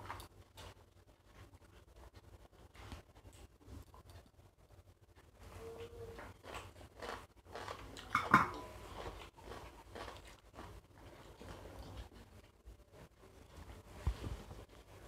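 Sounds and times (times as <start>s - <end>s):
people chewing and crunching: 0.0s - 15.0s.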